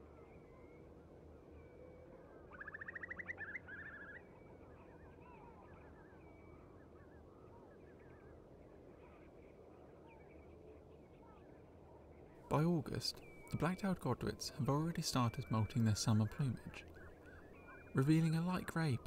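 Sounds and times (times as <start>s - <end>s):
faint calls of other waders: 1.8s - 11.5s, 12.5s - 19.0s.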